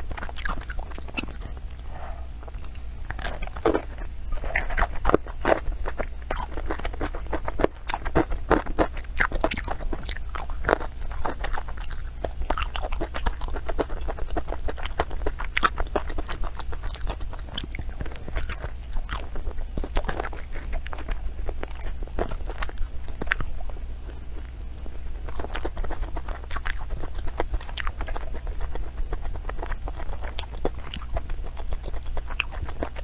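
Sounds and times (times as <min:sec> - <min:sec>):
chewing crunchy food: 0:00.0 - 0:33.0.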